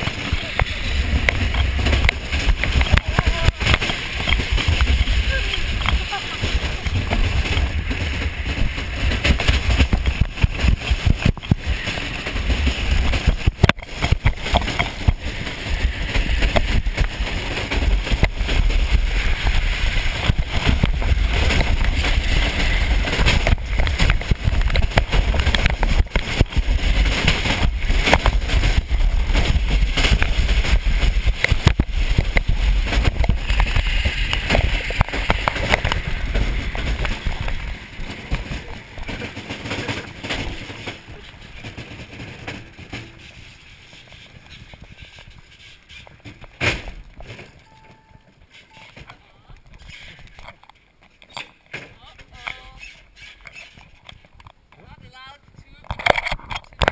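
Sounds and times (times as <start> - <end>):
sharp knocks and jolts: 0.0 - 47.6
sled rumbling and rattling: 0.0 - 56.9
wind rushing over camera: 0.0 - 56.9.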